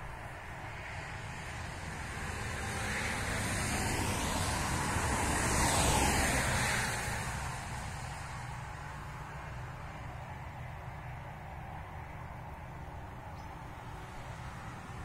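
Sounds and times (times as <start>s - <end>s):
car passing: 0.0s - 15.0s.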